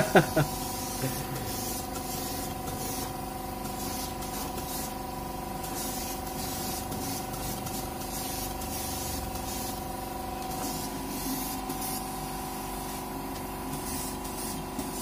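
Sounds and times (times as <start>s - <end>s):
paint spray gun hissing: 0.0s - 15.0s
steady hum: 0.0s - 15.0s.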